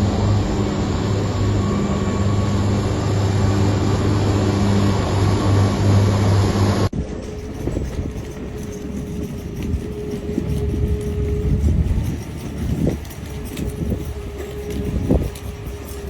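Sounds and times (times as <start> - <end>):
dense rushing noise: 0.0 - 16.0
heavy machine engine running: 0.0 - 16.0.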